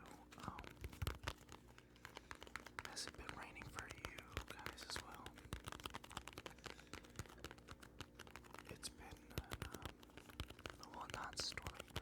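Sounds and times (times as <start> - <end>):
fingertips tapping: 0.0 - 12.0.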